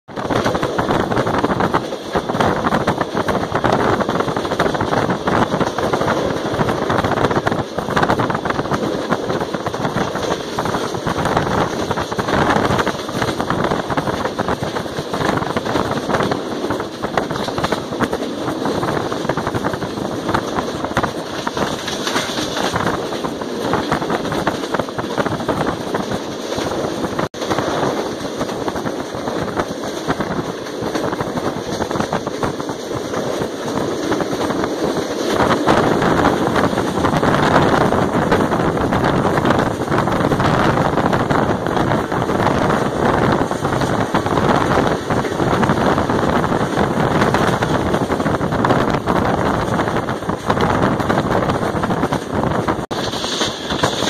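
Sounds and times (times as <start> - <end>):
train wheels clattering on rails: 0.1 - 54.0
wind buffeting microphone: 0.1 - 54.0.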